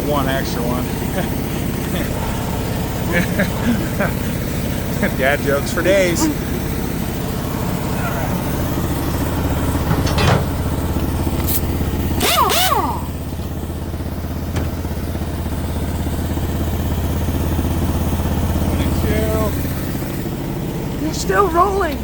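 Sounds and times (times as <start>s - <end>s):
engine idling hum: 0.0s - 22.0s.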